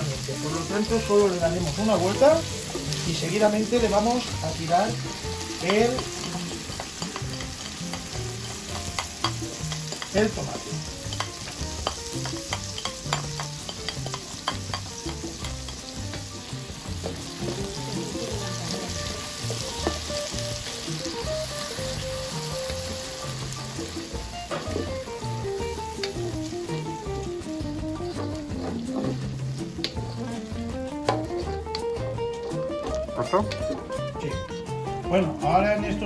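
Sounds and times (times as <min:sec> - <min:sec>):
tomato sizzling in oil: 0:00.0 - 0:36.0.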